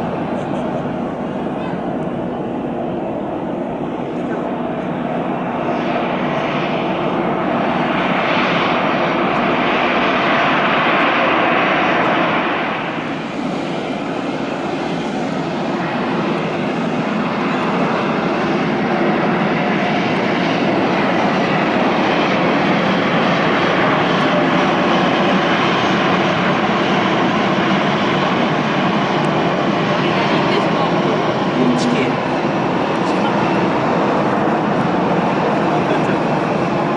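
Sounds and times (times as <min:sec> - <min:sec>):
airliner engine noise: 0:00.0 - 0:36.9
jet landing: 0:00.0 - 0:36.9.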